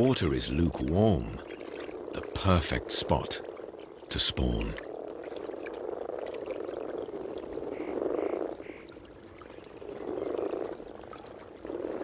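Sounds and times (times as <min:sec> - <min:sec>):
frogs croaking in chorus: 0:00.0 - 0:12.0.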